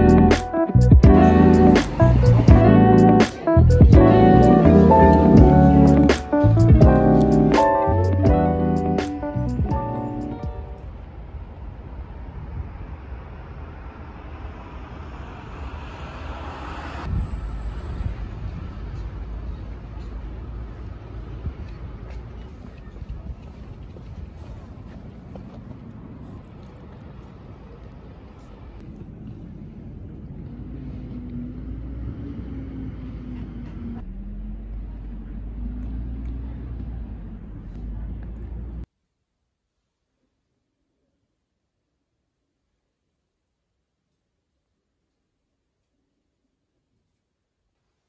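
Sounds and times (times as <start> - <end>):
low city rumble: 0.0 - 38.9
motor vehicle engine hum: 0.0 - 38.9.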